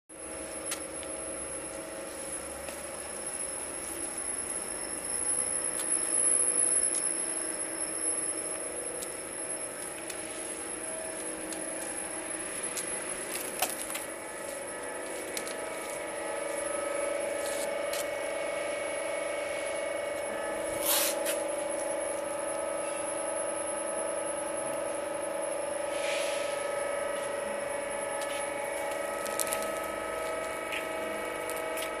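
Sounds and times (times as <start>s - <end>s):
roll forming machine whine: 0.1s - 32.0s.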